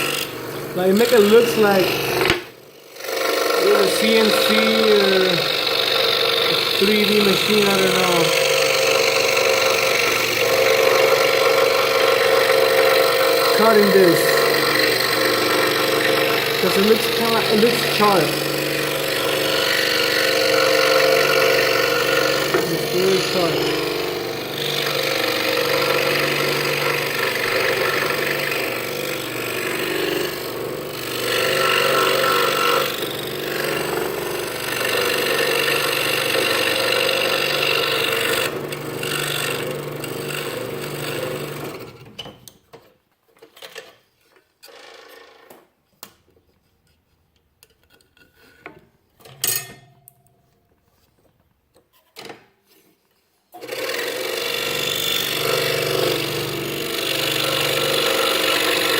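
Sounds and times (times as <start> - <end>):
scroll saw buzzing: 0.0 - 42.4, 53.6 - 58.9.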